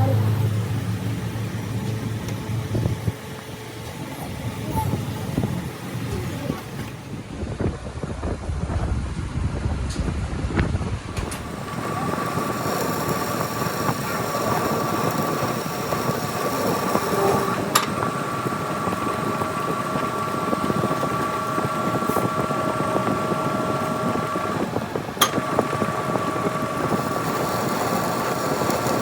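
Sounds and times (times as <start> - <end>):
metal lathe whine: 0.0 - 7.3, 11.1 - 29.0.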